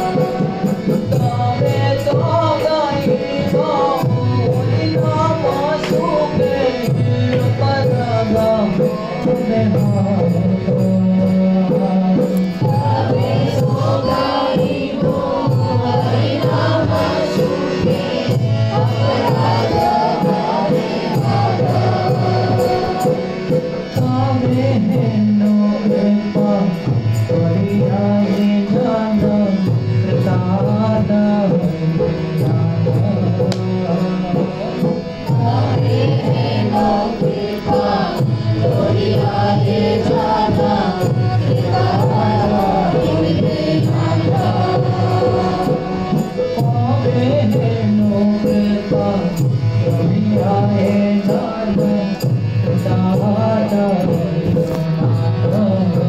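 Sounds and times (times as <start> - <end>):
harmonium: 0.0 - 56.0
man singing a chant: 0.0 - 56.0
percussion beat: 0.0 - 56.0.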